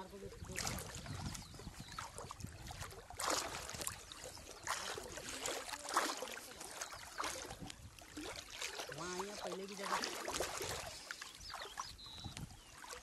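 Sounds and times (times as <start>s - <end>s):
legs wading through water: 0.0s - 13.0s.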